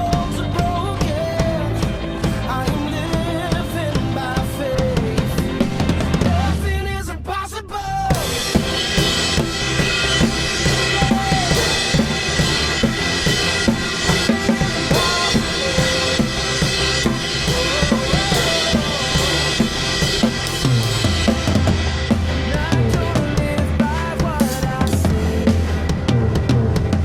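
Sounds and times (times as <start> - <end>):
backing song: 0.0 - 27.0
drum kit playing: 0.0 - 27.0.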